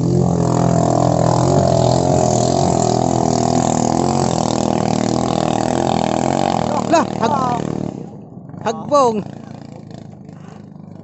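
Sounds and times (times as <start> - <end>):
boat engine at high speed: 0.0 - 11.0.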